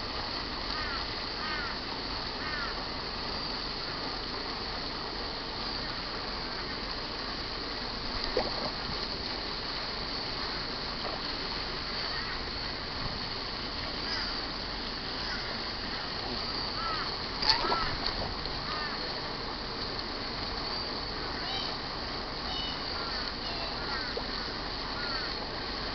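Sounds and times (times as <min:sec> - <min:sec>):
steady background hiss: 0:00.0 - 0:25.9
water splashing: 0:00.0 - 0:25.9.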